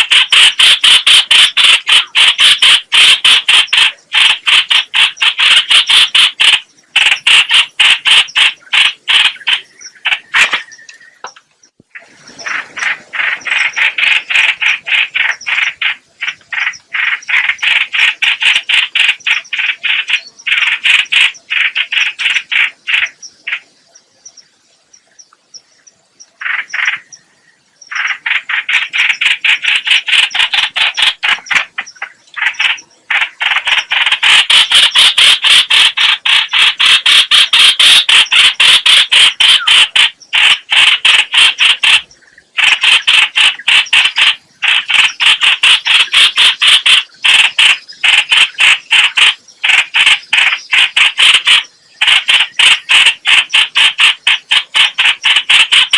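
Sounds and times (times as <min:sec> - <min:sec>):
bulbul chattering calls: 0:00.0 - 0:55.9.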